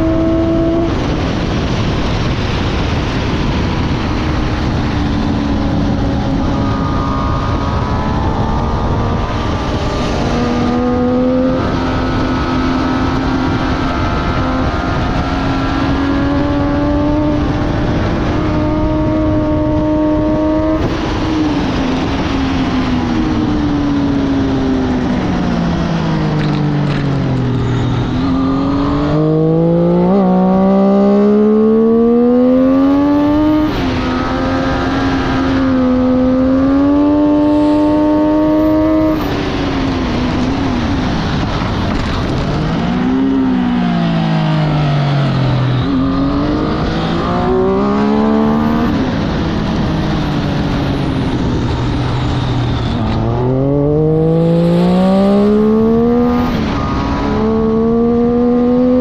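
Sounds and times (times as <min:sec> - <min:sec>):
motorcycle engine at speed: 0:00.0 - 0:59.0
wind rush: 0:00.0 - 0:59.0.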